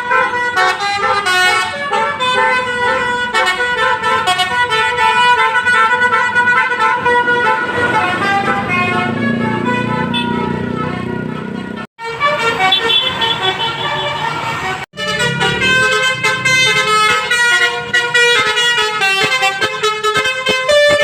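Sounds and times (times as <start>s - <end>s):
musical bus horn tooting: 0.0s - 21.0s.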